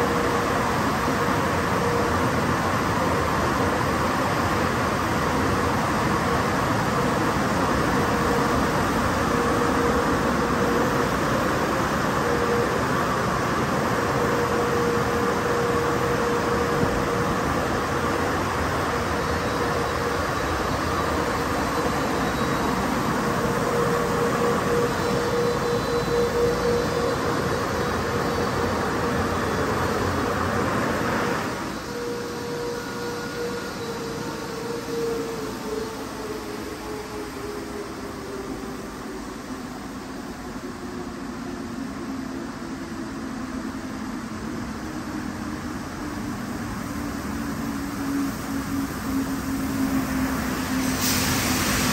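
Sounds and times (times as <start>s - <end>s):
blower air rushing: 0.0s - 51.9s.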